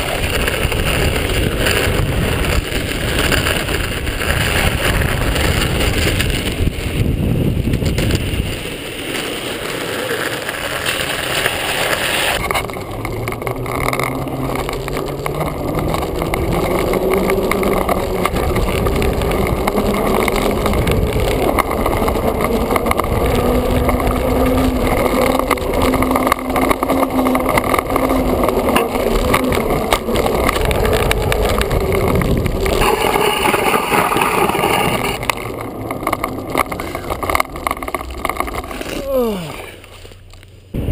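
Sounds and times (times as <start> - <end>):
wheels rolling on pavement: 0.0 - 40.9.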